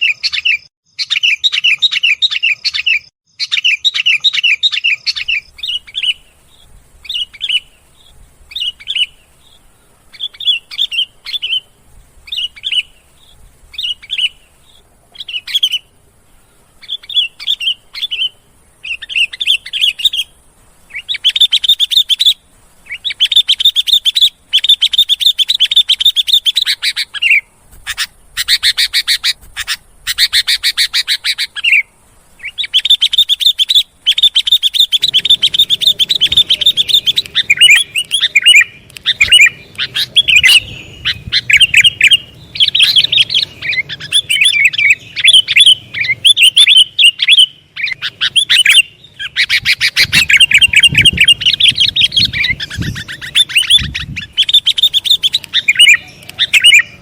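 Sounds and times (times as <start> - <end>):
bird high chirps: 0.0 - 57.0.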